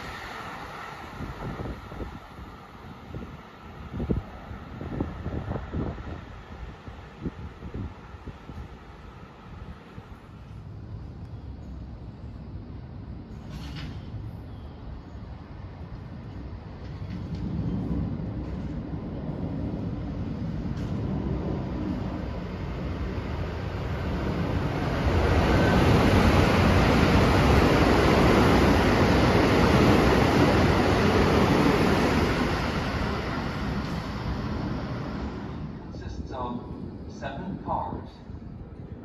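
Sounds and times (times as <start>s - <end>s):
train passing at high speed: 0.0s - 39.0s.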